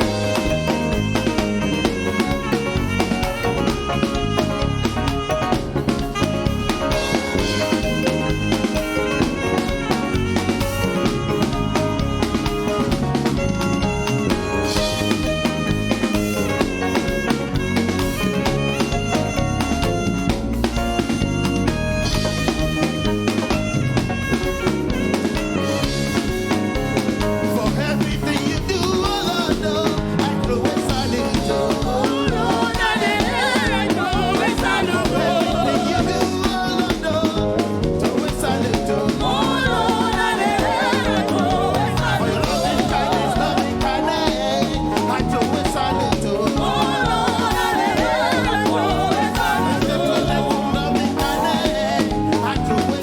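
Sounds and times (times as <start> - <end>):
people singing: 0.0 - 19.0, 25.8 - 53.0
band playing steady beat: 0.0 - 53.0.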